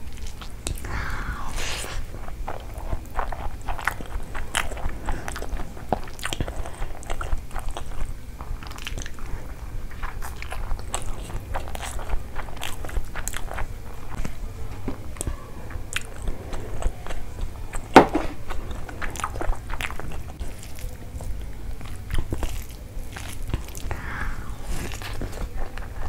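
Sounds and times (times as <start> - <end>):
person chewing food: 0.0 - 26.0
mouth clicks and crunches: 0.1 - 26.0.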